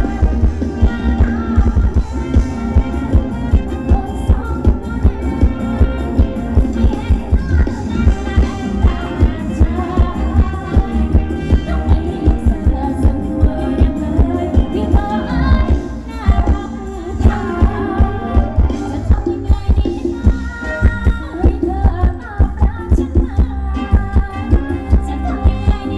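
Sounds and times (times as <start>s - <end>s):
live band dance music: 0.0s - 25.9s
person singing: 0.0s - 25.9s
steady drum beat: 0.0s - 25.9s.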